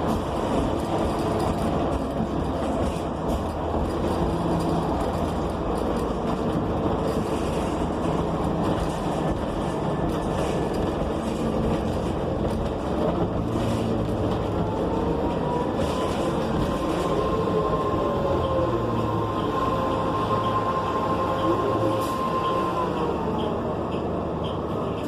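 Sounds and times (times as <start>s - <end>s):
bus engine humming: 0.0s - 25.0s
road noise: 0.0s - 25.0s.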